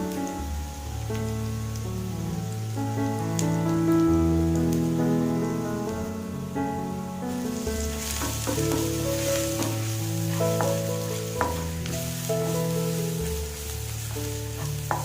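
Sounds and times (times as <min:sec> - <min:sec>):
background music with held notes: 0:00.0 - 0:15.0
food sizzling in a pan: 0:00.0 - 0:15.0.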